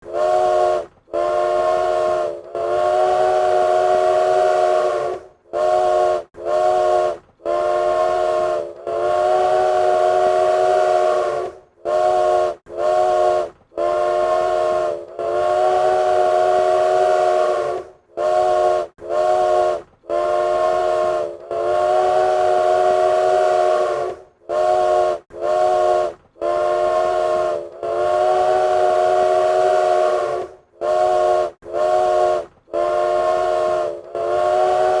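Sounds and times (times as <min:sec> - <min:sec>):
train whistle blasts: 0:00.0 - 0:35.0.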